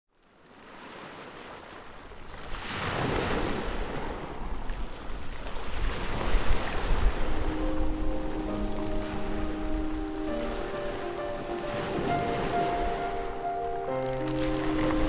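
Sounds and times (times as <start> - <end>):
sea water churning and rushing: 0.2 - 15.0.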